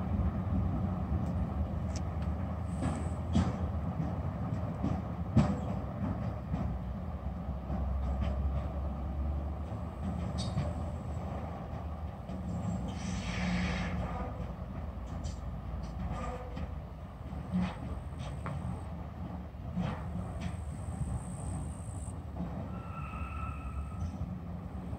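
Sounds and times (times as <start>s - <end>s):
diesel locomotive engine drone: 0.0s - 24.9s
train wheels knocking on rail joints: 0.5s - 22.8s.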